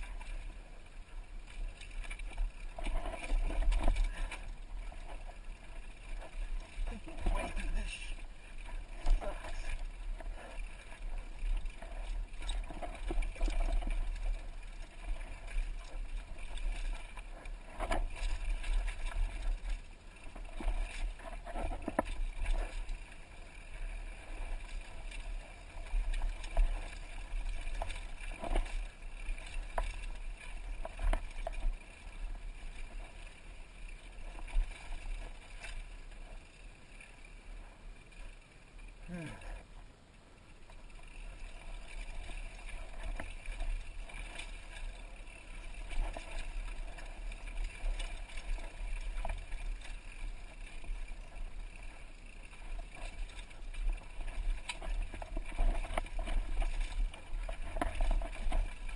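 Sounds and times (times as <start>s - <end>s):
bike tyres on dirt and rock: 0.0s - 37.8s, 40.8s - 58.9s.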